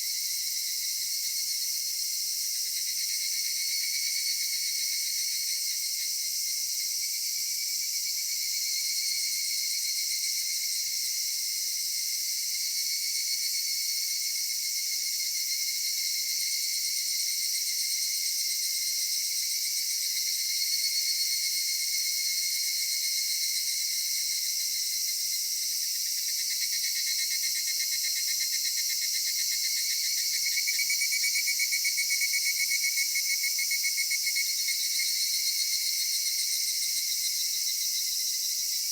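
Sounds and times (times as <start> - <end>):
cicadas chorus: 0.0 - 38.9.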